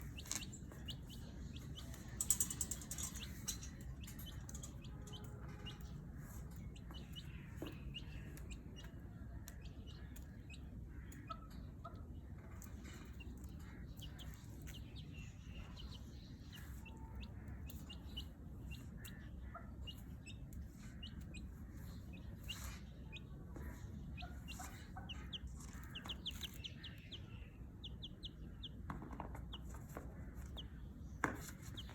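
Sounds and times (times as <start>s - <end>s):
chick peeping: 0.0s - 30.7s.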